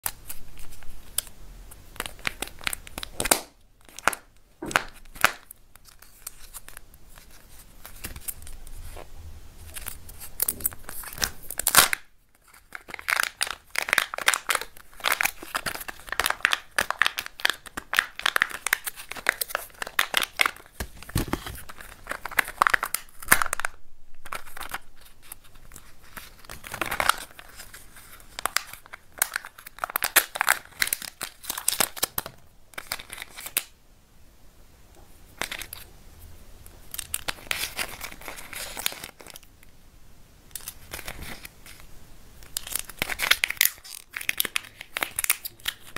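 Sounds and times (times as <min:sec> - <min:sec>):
plastic wrapper crinkling and tearing: 0:00.0 - 0:33.8, 0:35.3 - 0:35.9, 0:36.6 - 0:39.7, 0:40.5 - 0:45.9.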